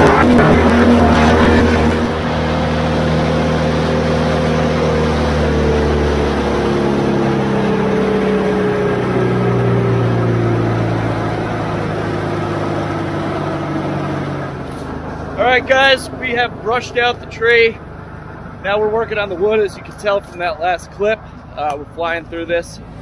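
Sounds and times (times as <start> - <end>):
wood chipper engine winding down: 0.0 - 20.4.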